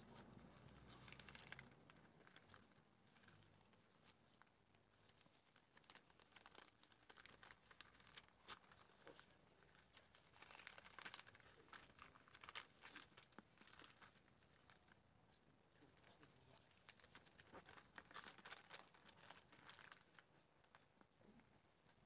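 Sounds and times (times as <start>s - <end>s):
paper crinkling: 0.0s - 15.1s, 15.8s - 22.0s.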